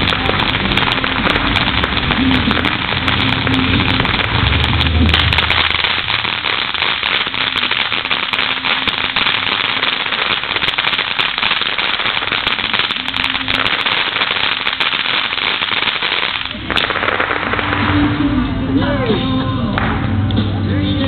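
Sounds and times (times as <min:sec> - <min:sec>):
firework hissing and crackling: 0:00.0 - 0:18.7.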